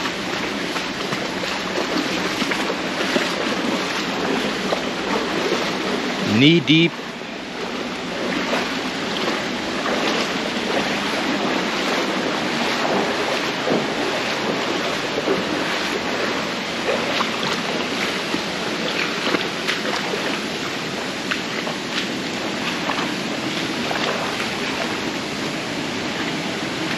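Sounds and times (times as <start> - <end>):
splashes from wading: 0.0 - 26.9
stream water rushing: 0.0 - 26.9.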